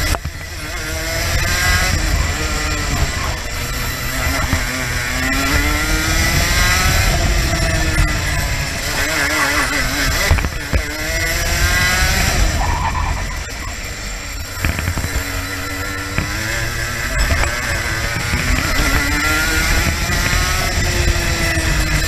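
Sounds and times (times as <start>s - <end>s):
kart engine accelerating: 0.0s - 22.0s.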